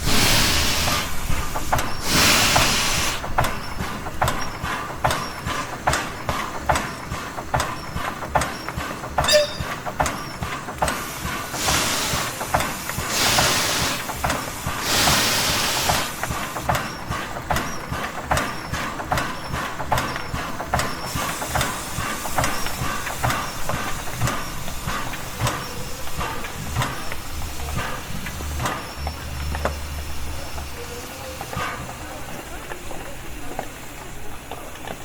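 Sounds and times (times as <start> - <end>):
steam hissing: 0.0 - 35.0.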